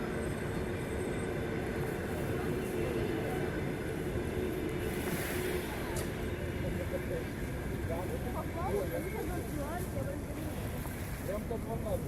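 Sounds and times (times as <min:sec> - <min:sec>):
low seaside rumble: 0:00.0 - 0:12.0.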